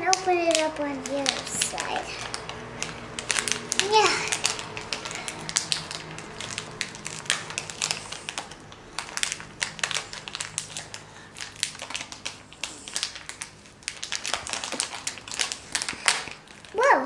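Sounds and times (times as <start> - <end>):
plastic bag crinkling: 0.0 - 16.9.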